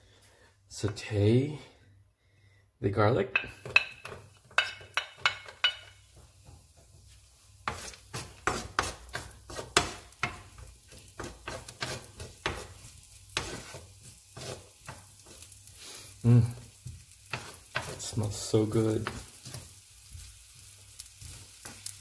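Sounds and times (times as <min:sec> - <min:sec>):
garlic sizzling in oil: 0:03.4 - 0:22.0
spatula scraping a frying pan: 0:03.4 - 0:22.0.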